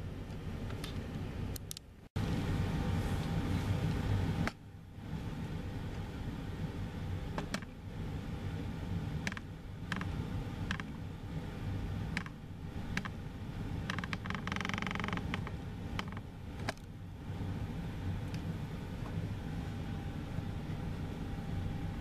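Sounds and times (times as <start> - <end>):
muffled jet engines rumbling: 0.0 - 22.0.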